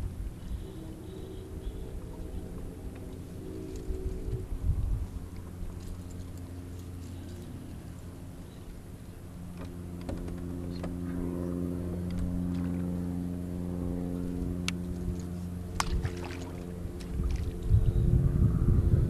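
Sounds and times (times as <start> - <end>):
boat motor humming: 0.0 - 18.8.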